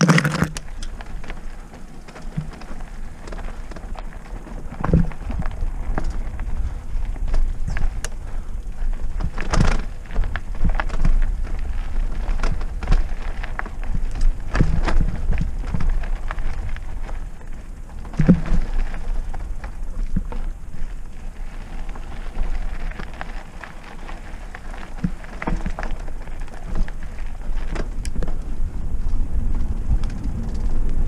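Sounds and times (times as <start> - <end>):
bike rattles and knocks: 0.0 - 31.0
bike tyres crunching on dirt: 0.0 - 31.0
wind rumble on microphone: 0.0 - 31.0.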